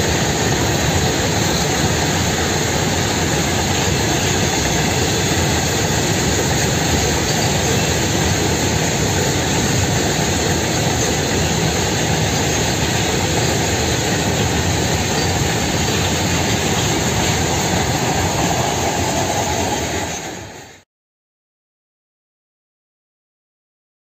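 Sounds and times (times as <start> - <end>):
freight wagons rumbling on rails: 0.0 - 20.8.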